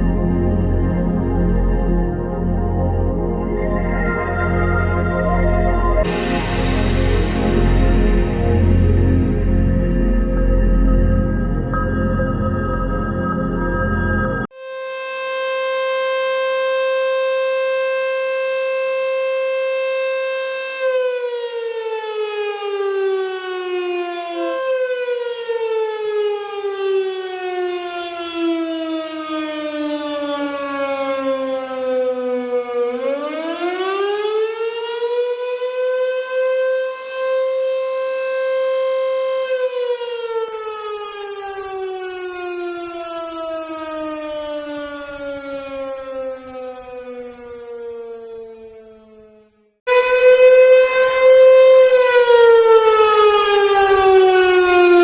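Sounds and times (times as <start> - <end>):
air raid siren wailing: 0.0 - 55.0.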